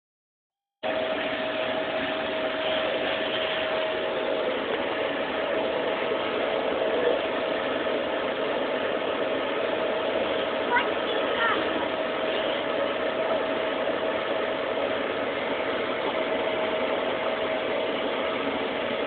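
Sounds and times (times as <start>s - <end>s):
vacuum cleaner running: 0.8s - 19.0s.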